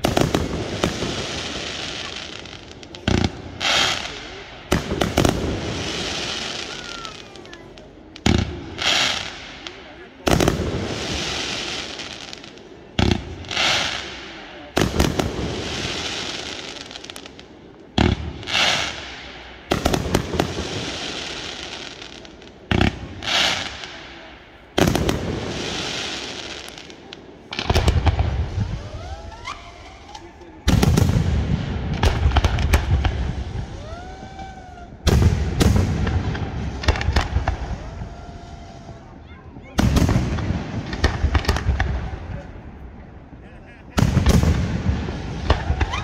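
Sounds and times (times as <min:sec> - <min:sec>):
crackling firework hiss: 0:00.0 - 0:46.0
deep firework booms: 0:00.0 - 0:46.0
firework bangs: 0:00.0 - 0:46.0.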